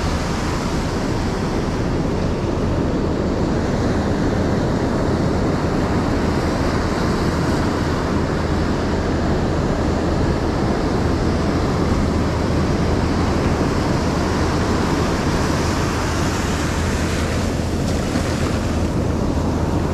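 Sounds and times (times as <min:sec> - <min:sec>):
ocean surf on a beach: 0:00.0 - 0:19.9
wind rumbling on microphone: 0:00.0 - 0:19.9.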